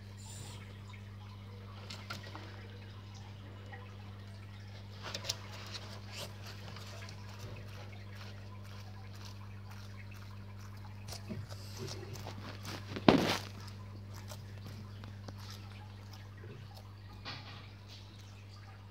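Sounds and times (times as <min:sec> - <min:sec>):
low electrical hum: 0:00.0 - 0:18.9.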